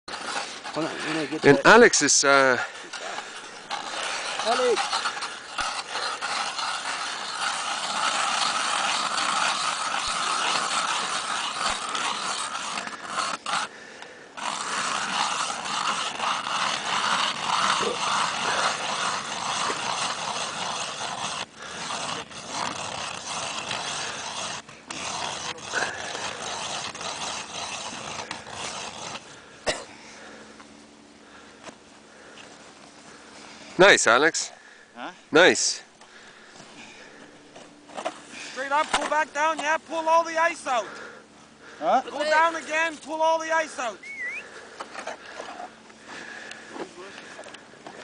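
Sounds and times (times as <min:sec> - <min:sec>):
ice auger grinding through ice: 0:00.0 - 0:30.6, 0:31.2 - 0:48.0.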